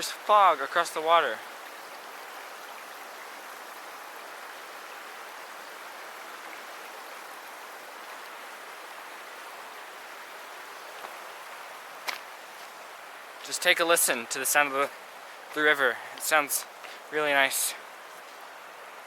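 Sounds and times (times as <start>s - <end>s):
large river flowing: 0.0s - 19.0s.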